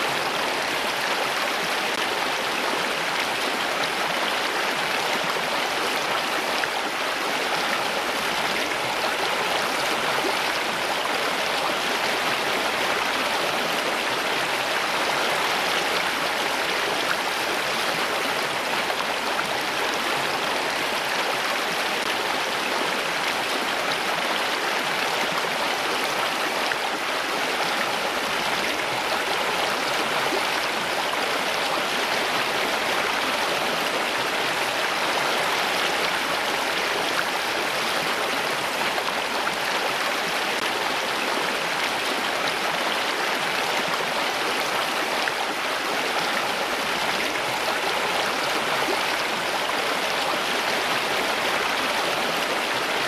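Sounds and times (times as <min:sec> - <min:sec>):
flowing water rushing and splashing: 0:00.0 - 0:53.0.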